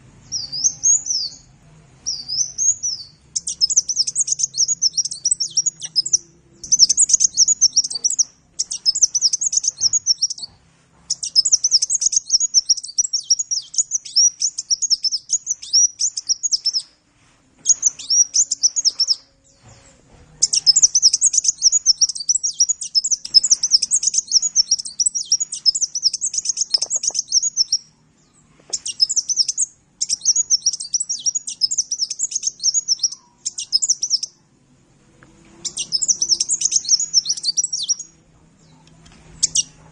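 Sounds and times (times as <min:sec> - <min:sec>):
bird chattering twitter: 0:02.1 - 0:10.5, 0:11.1 - 0:16.9, 0:17.6 - 0:19.3, 0:20.4 - 0:27.8, 0:28.7 - 0:34.3, 0:35.6 - 0:38.1, 0:38.8 - 0:39.8.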